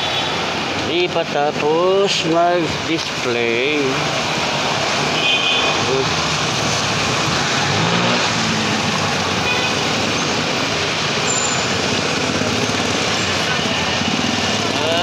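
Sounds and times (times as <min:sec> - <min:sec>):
motorcycles and cars passing: 0:00.0 - 0:15.0.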